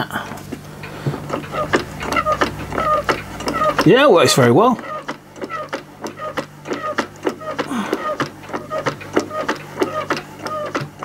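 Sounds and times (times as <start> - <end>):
model mechanism clicking and squeaking: 1.5 - 10.8.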